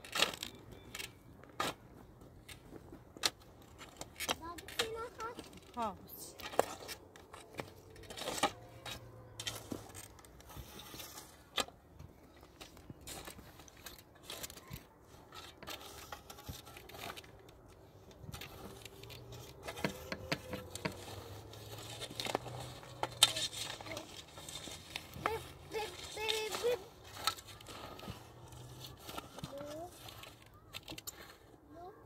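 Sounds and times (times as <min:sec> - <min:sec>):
rustling: 0:00.0 - 0:31.6.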